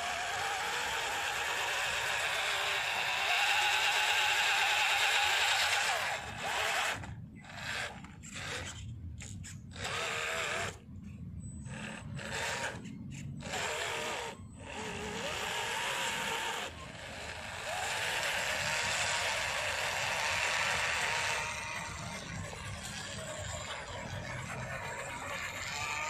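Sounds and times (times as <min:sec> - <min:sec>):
small electric motor whining: 0:00.0 - 0:26.0.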